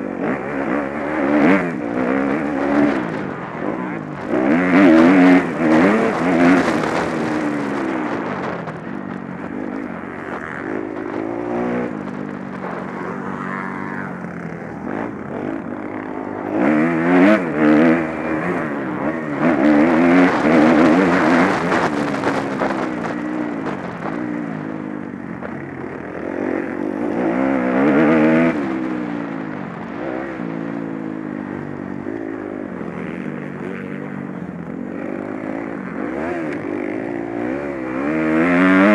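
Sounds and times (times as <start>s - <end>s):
motocross bikes revving past: 0.0s - 38.9s.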